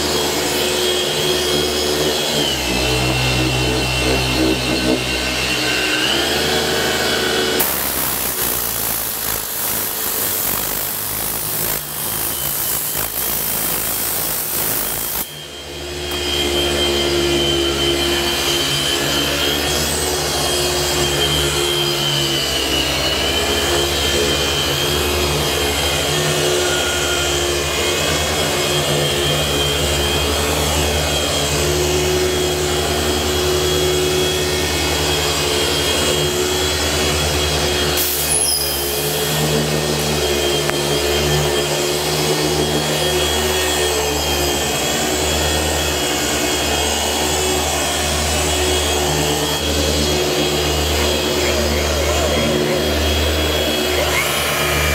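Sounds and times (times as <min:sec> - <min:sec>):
electric polisher running: 0:00.0 - 0:54.9.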